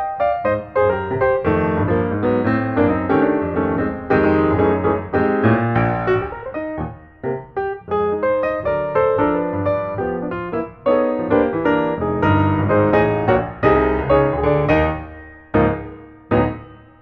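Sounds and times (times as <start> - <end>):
lively piano music: 0.0 - 17.0.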